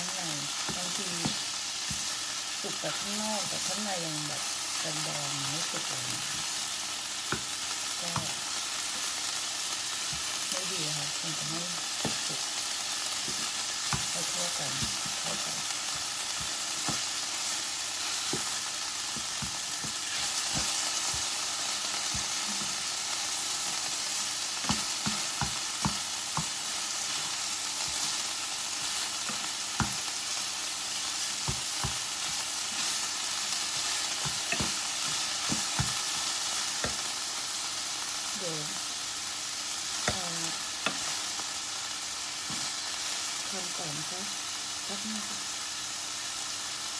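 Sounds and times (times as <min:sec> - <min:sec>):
sauce sizzling in a pan: 0:00.0 - 0:46.9.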